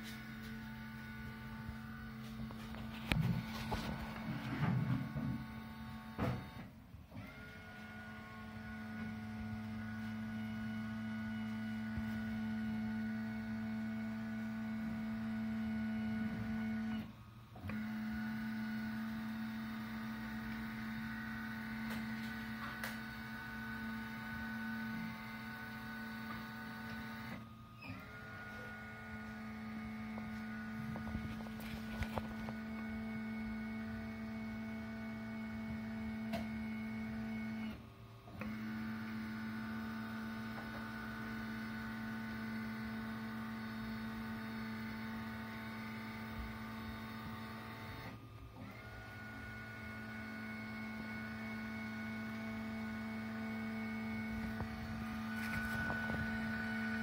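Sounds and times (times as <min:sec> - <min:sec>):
lift motor humming: 0:00.0 - 0:57.0.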